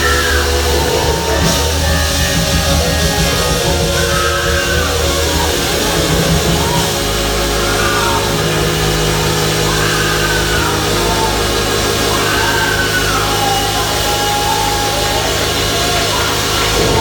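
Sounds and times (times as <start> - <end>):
higher melody line: 0.0 - 17.0
low bass notes: 0.0 - 17.0.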